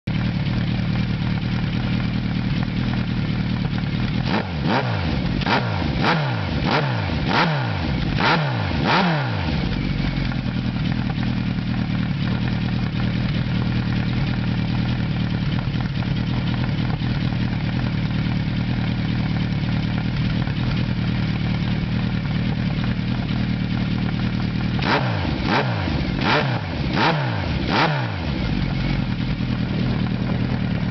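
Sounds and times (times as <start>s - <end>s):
motorcycle engine idling: 0.0s - 30.9s
motorcycle throttle blips: 0.1s - 30.9s.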